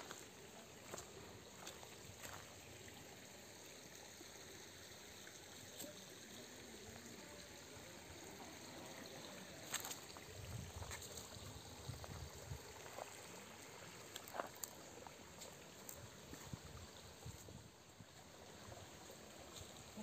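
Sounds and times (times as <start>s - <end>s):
trickle of running water: 0.0s - 20.0s.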